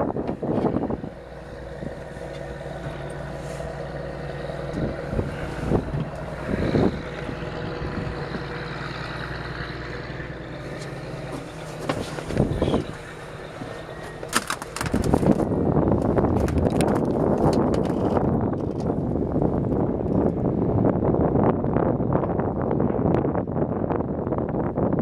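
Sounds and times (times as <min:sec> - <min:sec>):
boat engine idling: 0:00.0 - 0:24.8.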